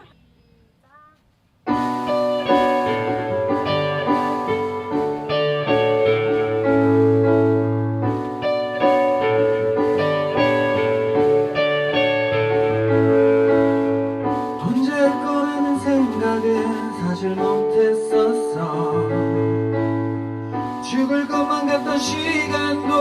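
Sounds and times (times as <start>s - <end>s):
keyboard chords: 1.6s - 23.0s
live band playing: 1.7s - 23.0s.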